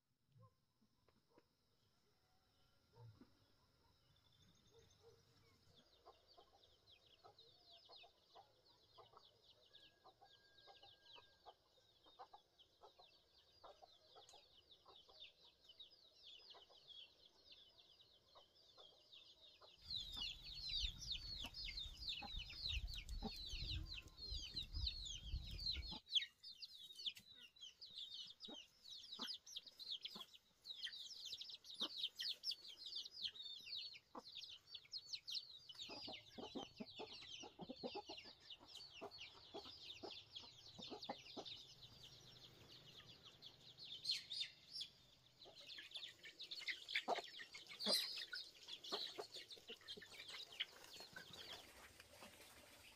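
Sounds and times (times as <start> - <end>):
chicks peeping: 5.9 - 52.9.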